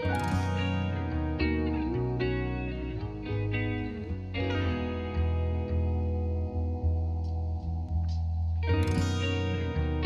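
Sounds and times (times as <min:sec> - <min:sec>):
instrumental music with ringing notes: 0:00.0 - 0:10.0.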